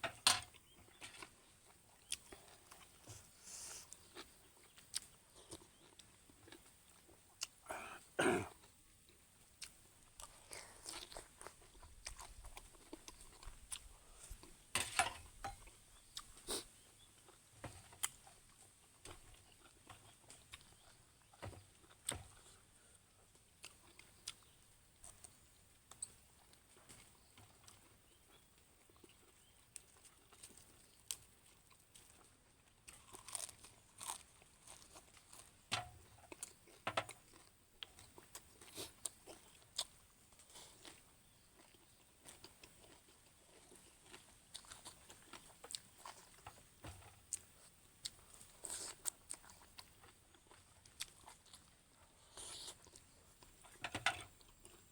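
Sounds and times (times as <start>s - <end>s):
chewing and crunching: 0.0s - 54.9s.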